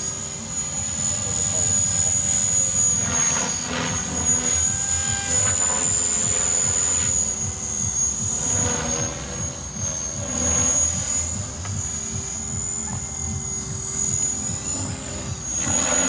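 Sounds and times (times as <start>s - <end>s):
model helicopter whine: 0.0s - 16.0s
rotor blade noise: 0.0s - 16.0s.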